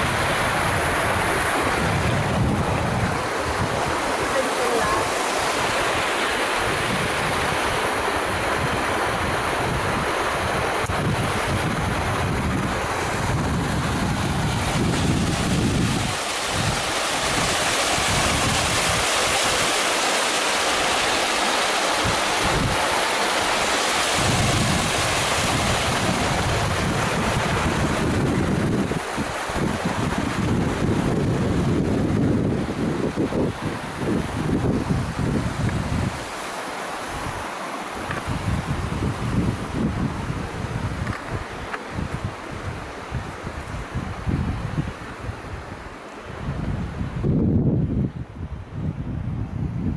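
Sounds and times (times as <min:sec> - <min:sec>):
stream rushing over rock: 0:00.0 - 0:48.2
wind buffeting microphone: 0:00.0 - 0:49.9.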